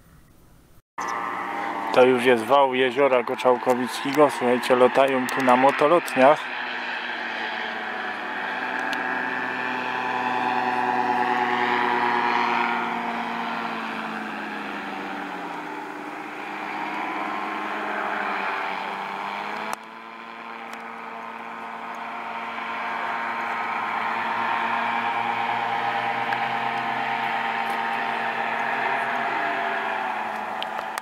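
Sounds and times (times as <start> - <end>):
paramotor engines droning overhead: 1.0 - 31.0.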